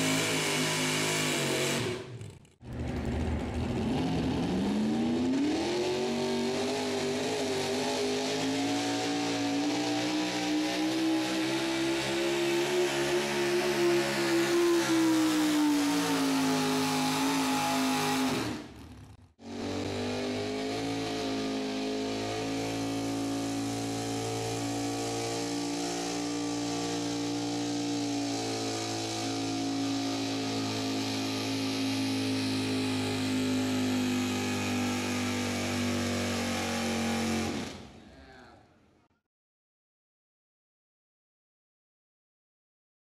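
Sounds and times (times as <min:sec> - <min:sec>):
truck engines at full throttle: 0:00.0 - 0:38.0.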